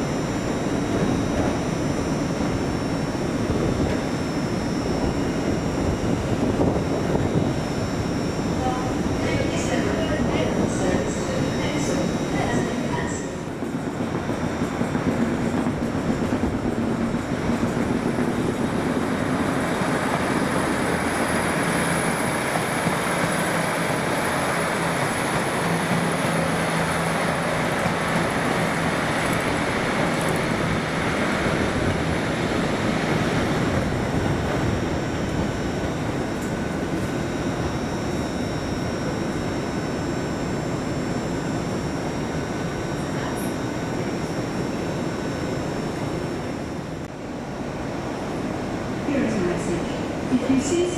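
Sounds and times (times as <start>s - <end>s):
train rumbling and humming: 0.0s - 50.9s.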